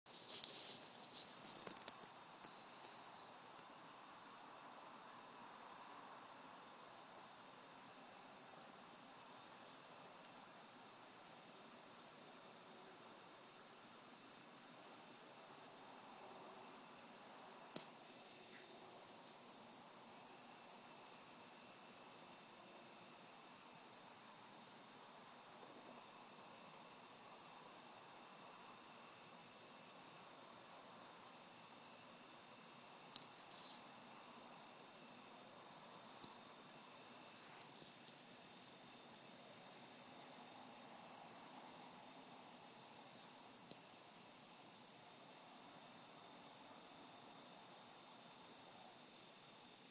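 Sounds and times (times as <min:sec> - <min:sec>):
crickets chirping: 0:00.1 - 0:49.9
low hiss: 0:00.1 - 0:49.9.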